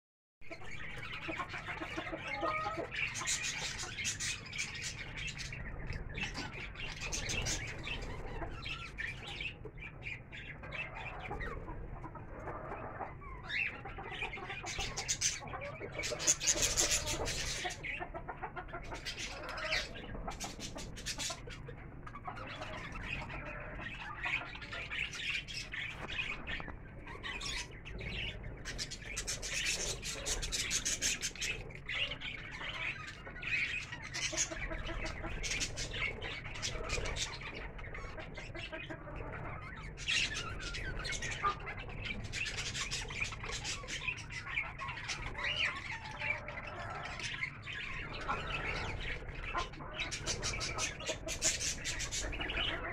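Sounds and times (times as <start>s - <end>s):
budgerigars chattering and chirping: 0.5s - 52.9s.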